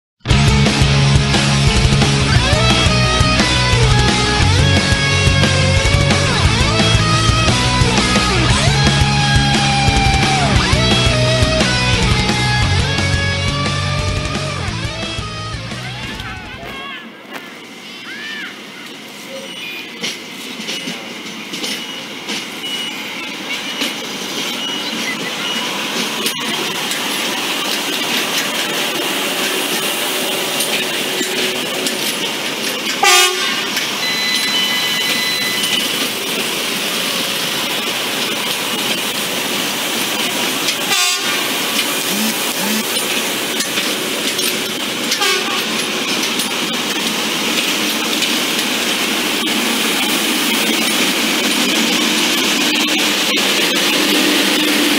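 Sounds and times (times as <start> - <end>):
track machine running on rails: 0.2 - 54.9.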